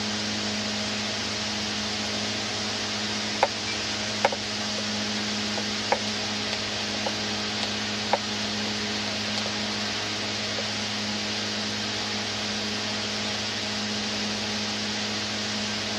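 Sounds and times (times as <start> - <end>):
fan-like hum: 0.0 - 15.9.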